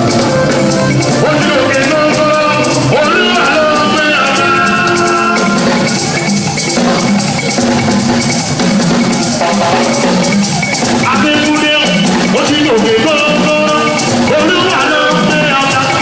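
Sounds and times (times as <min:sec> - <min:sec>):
drum kit and percussion: 0:00.0 - 0:16.0
live band playing latin music: 0:00.0 - 0:16.0.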